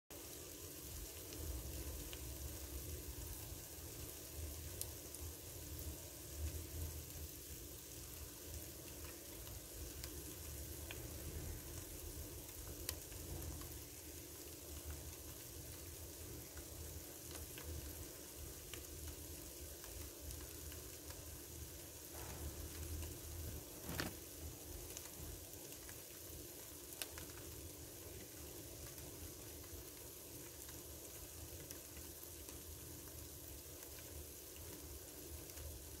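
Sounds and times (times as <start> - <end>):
fish fillet sizzling: 0.2 - 36.0.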